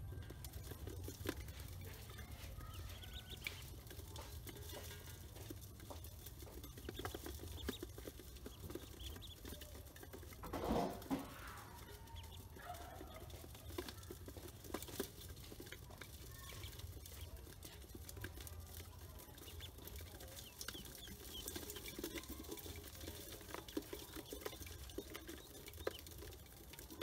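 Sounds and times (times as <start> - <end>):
ducklings pecking in metal basin: 0.0 - 27.0
ducklings peeping: 0.0 - 27.0.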